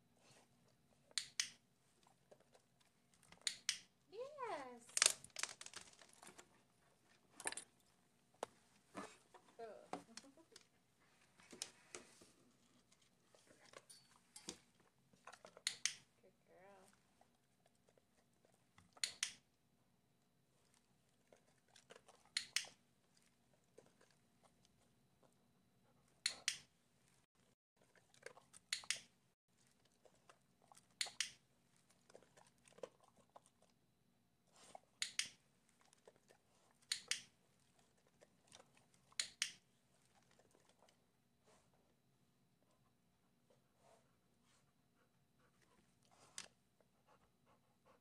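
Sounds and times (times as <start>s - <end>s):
faint small sounds: 0.0s - 48.0s.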